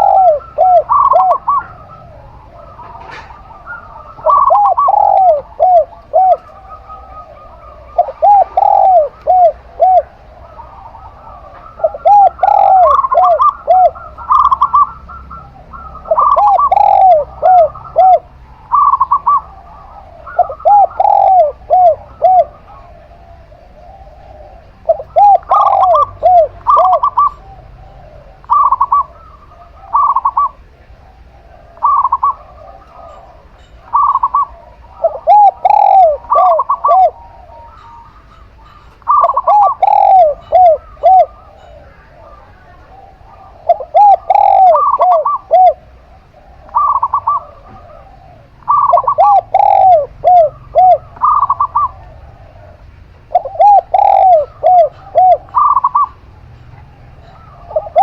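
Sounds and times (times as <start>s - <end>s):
higher even dove coos: 0.0s - 58.0s
low arching dove coos: 0.0s - 58.0s.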